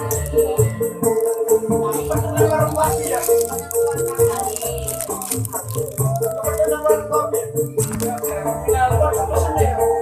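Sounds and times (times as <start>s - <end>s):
shaker keeping time: 0.0s - 9.4s
background music with steady beat: 0.0s - 10.0s.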